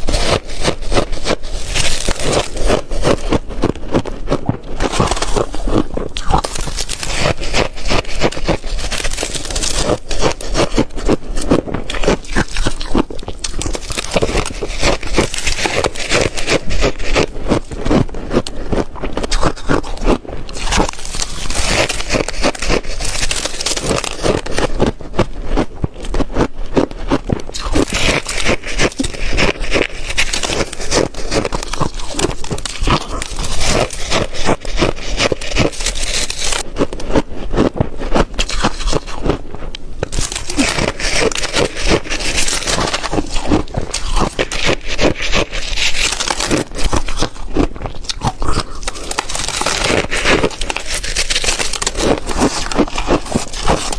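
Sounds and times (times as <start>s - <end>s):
ice crunching between teeth: 0.0s - 53.9s.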